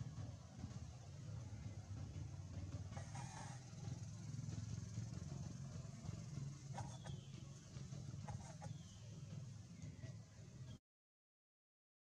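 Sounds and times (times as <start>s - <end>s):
vehicle engine rumbling: 0.0s - 10.8s.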